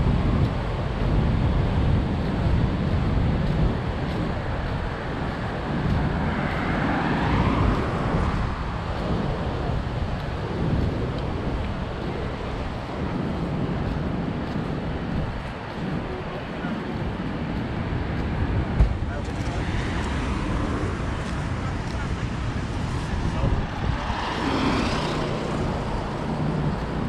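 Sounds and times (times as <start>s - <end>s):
road traffic passing: 0.0s - 27.0s
wind rumbling on microphone: 0.0s - 27.0s.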